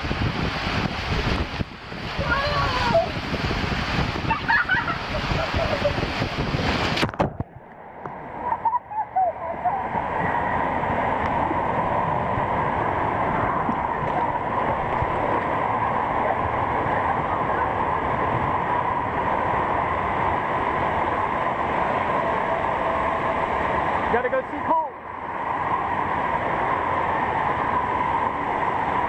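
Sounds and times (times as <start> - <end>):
rushing water and machinery: 0.0 - 29.0.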